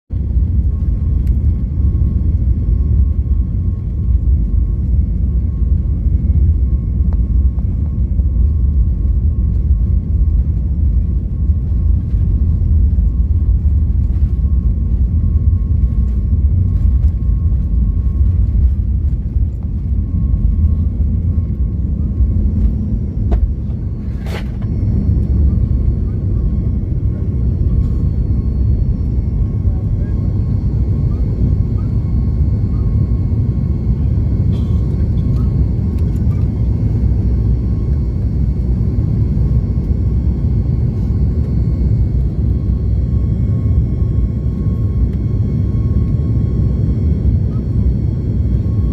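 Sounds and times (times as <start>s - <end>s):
airliner cabin engine rumble: 0.1s - 48.9s
faint steady whine: 0.2s - 48.9s.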